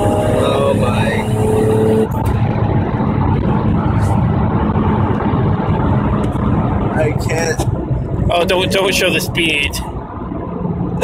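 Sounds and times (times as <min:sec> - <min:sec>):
car engine drone: 0:00.0 - 0:11.0
road noise: 0:00.0 - 0:11.0
steady engine note: 0:00.0 - 0:11.0.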